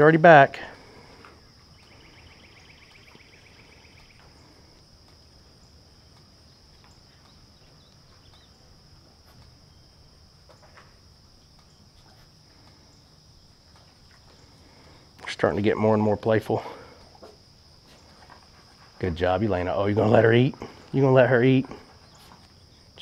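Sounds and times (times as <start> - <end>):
insect chirring trill: 0.0 - 23.0
insect high-pitched drone: 0.0 - 23.0.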